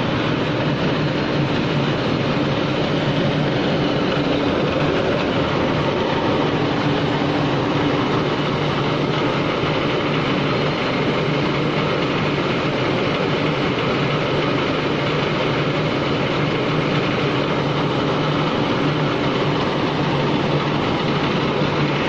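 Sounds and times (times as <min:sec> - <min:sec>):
crusher machine running: 0:00.0 - 0:22.0
low hum: 0:00.0 - 0:22.0.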